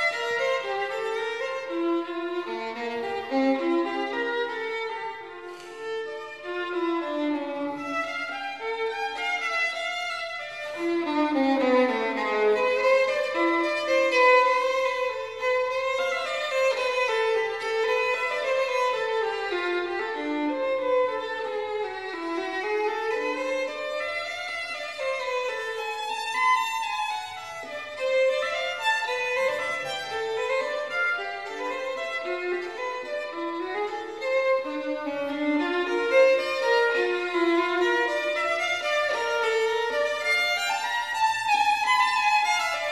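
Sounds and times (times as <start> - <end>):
bowed violin melody: 0.0 - 42.9.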